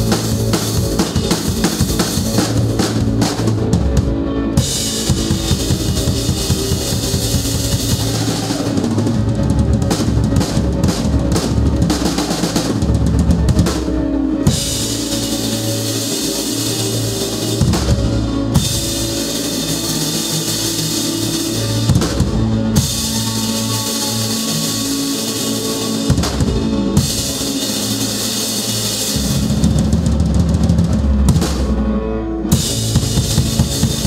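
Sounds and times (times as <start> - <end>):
drum kit hits: 0.0 - 31.8
live rock band playing: 0.0 - 34.0.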